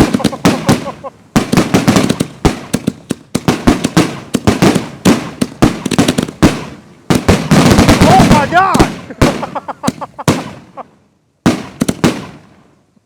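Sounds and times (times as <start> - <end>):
firework shells firing and bursting: 0.0 - 12.9.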